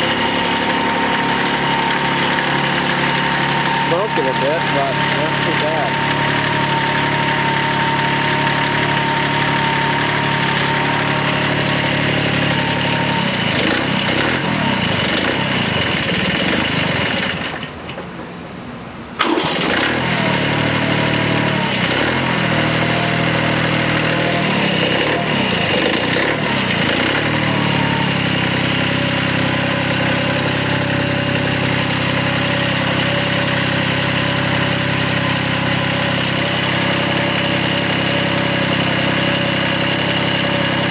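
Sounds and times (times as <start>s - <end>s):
tractor diesel engine running: 0.0s - 18.2s, 19.2s - 40.9s.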